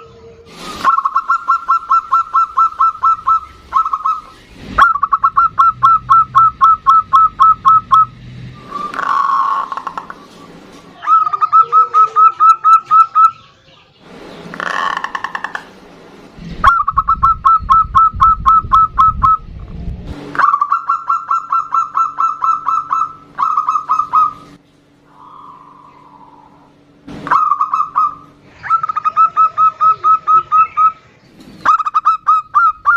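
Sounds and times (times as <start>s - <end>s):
doves cooing: 0.0s - 15.8s, 20.4s - 32.9s.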